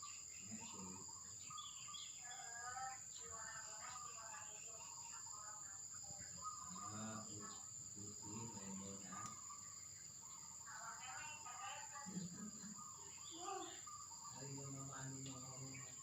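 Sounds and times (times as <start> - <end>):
crickets droning: 0.0 - 16.0
people talking in low voices: 0.4 - 1.6, 2.2 - 9.6, 10.6 - 16.0.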